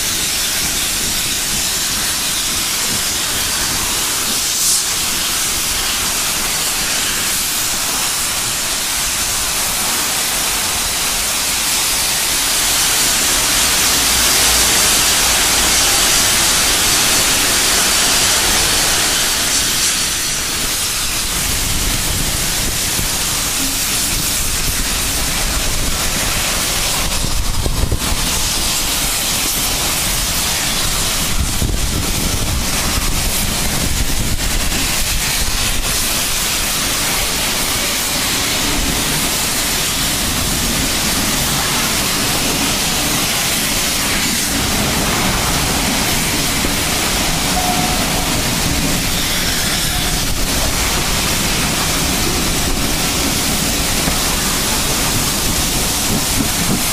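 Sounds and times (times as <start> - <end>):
steam locomotive hissing: 0.0 - 56.9.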